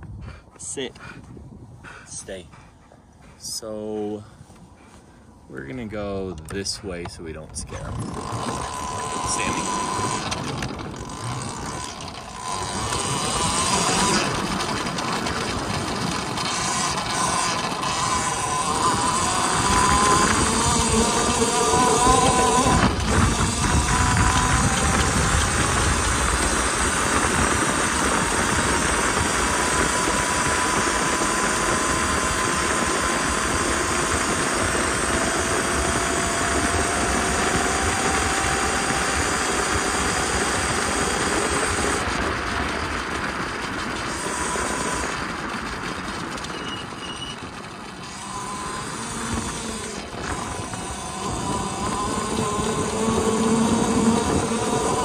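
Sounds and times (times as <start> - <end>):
wind and tyre noise: 0.0 - 55.0
electric motor whine: 3.5 - 55.0.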